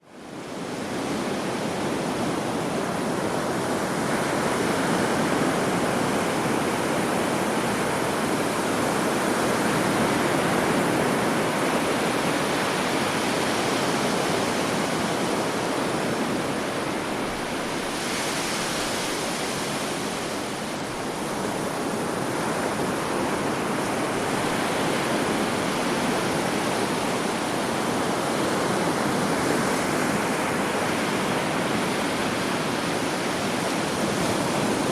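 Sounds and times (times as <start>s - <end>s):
sea waves washing onto beach: 0.2s - 34.9s.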